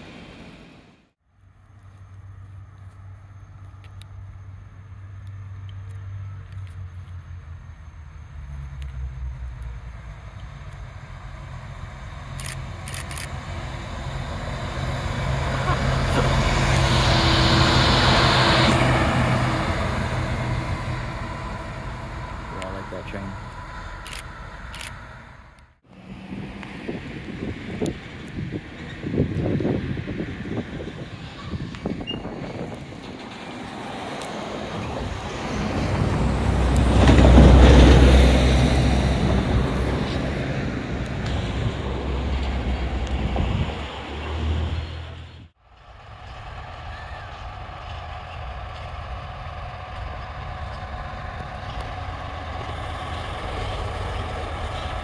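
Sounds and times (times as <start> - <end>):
railcar engine drone: 0.0 - 55.0.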